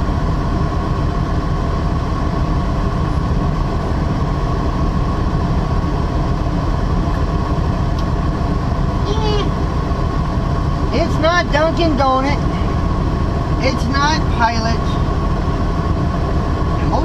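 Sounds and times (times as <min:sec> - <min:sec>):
diesel truck engine running: 0:00.0 - 0:17.0
faint steady whine: 0:00.0 - 0:17.0.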